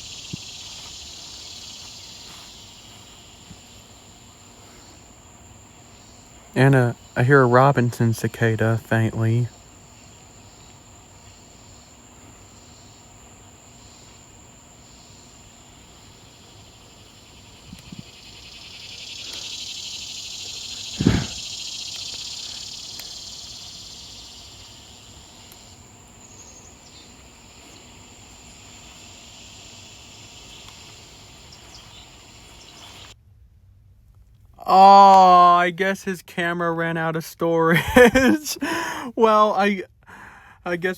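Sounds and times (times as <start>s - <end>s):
cicada buzzing: 0.0s - 33.2s, 37.8s - 38.9s
outdoor ambience: 0.0s - 40.9s.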